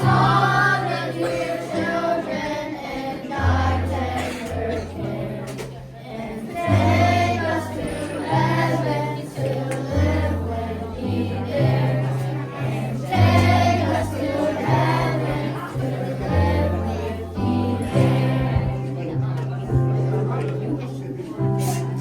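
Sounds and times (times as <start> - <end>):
group singing a carol: 0.0 - 20.1.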